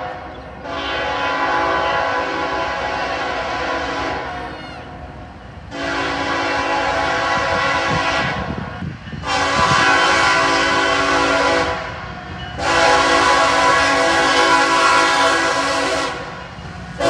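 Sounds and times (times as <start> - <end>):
locomotive air horn blasts: 0.0 - 4.7, 5.7 - 12.0, 12.6 - 17.0
low rumble of train: 0.0 - 17.0.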